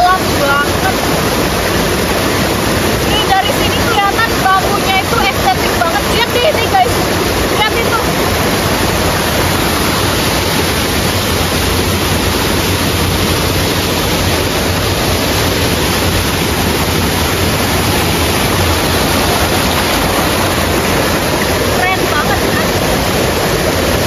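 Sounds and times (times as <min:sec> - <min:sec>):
water rushing over stones: 0:00.0 - 0:24.0.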